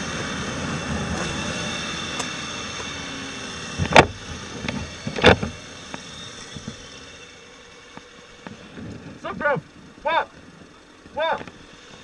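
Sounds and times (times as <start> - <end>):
vehicle noise: 0.0 - 12.0.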